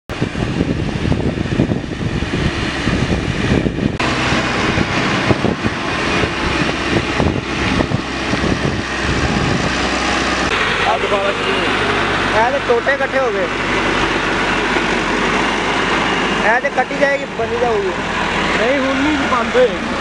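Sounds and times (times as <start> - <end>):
tractor diesel engine under load: 0.1 - 20.0.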